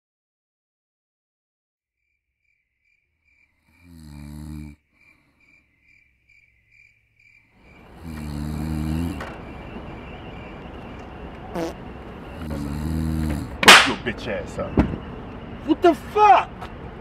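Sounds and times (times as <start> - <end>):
crickets chirping: 2.0 - 17.0.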